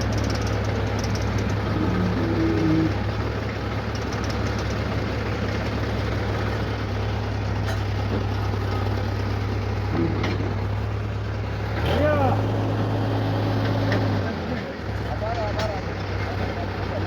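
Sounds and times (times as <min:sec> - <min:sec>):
heavy diesel engine humming: 0:00.0 - 0:17.0.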